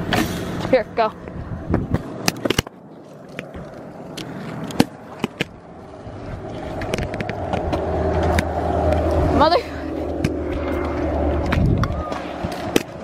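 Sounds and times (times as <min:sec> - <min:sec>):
wheels rolling over pavement: 0:00.0 - 0:13.0.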